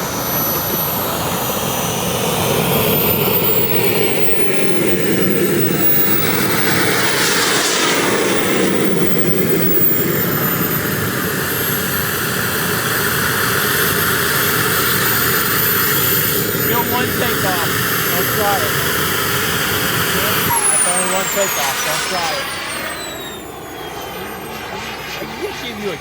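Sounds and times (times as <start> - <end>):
model jet turbine whine: 0.0 - 26.0.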